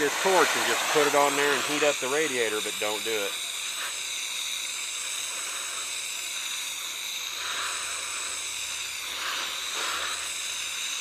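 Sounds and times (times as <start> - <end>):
gas torch flame hissing: 0.0 - 11.0.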